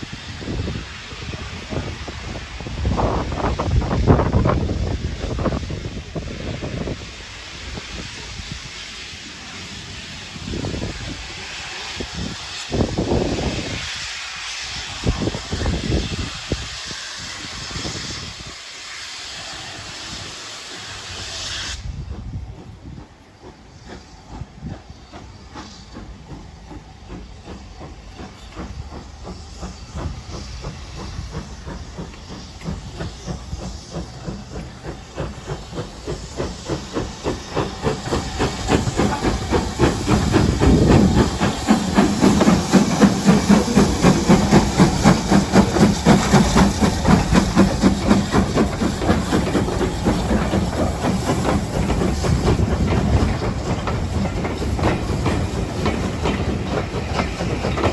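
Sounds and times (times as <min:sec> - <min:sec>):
steam hissing: 0:00.0 - 0:57.9
steam locomotive rhythmic beat: 0:00.0 - 0:57.9.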